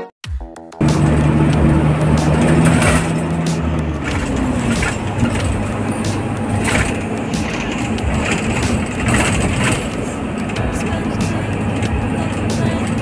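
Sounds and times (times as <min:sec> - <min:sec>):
minibus engine and road rumble: 0:00.8 - 0:13.0
tyre noise on wet road: 0:00.8 - 0:13.0.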